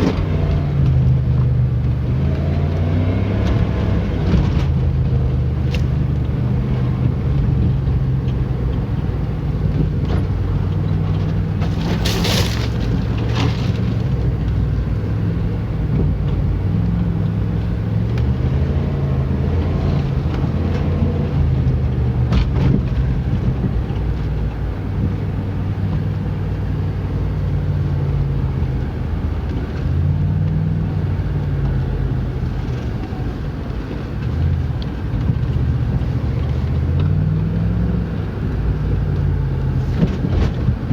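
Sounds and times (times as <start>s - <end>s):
car engine running while driving: 0.0s - 40.9s.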